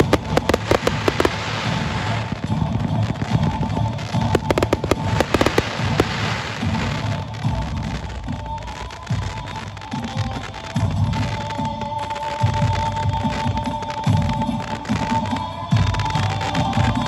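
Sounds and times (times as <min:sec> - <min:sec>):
fireworks cracking and popping: 0:00.0 - 0:17.0
steady hiss: 0:00.0 - 0:17.0.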